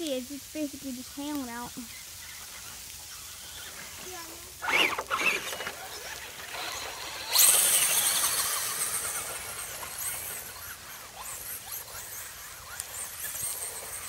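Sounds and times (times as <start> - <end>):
tyre hiss on grass: 0.0 - 14.0
rc truck motor whine: 1.8 - 14.0.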